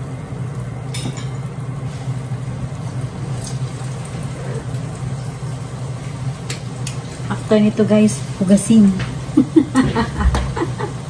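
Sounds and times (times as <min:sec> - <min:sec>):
chicken sizzling in oil: 0:00.0 - 0:11.0
constant low hum: 0:00.0 - 0:11.0.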